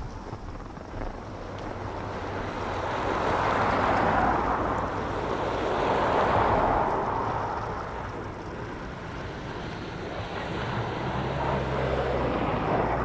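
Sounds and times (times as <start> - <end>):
wind buffeting microphone: 0.0 - 13.0
wind gusting: 0.0 - 13.0.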